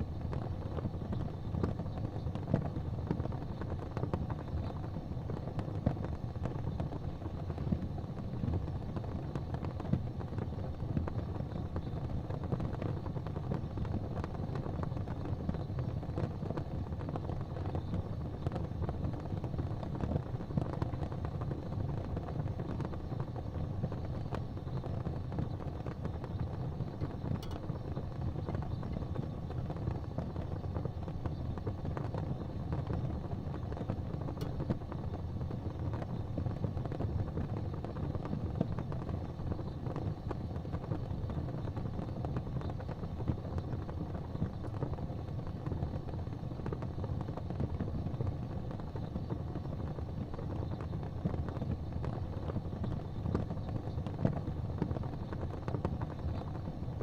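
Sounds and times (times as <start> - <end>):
small fire pops: 0.0 - 57.0
wood fire crackling: 0.0 - 57.0.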